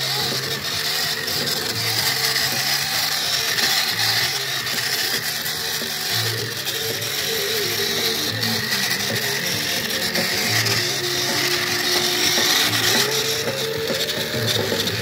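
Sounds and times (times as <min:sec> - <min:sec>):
toy truck motor whirring: 0:00.0 - 0:15.0.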